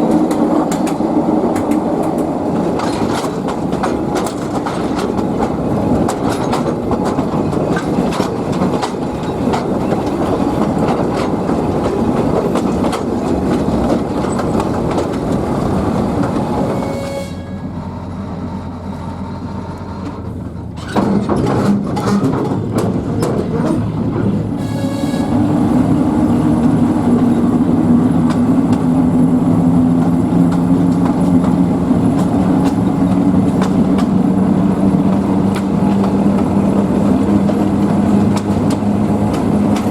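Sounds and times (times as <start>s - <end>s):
train wheels clattering over rail joints: 0.0s - 17.4s, 19.2s - 39.9s
diesel locomotive drone: 0.0s - 39.9s.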